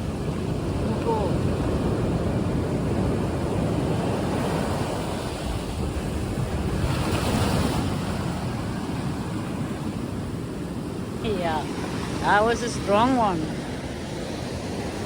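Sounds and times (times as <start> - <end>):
sea waves breaking on beach: 0.0 - 15.0
wind buffeting microphone: 0.0 - 15.0.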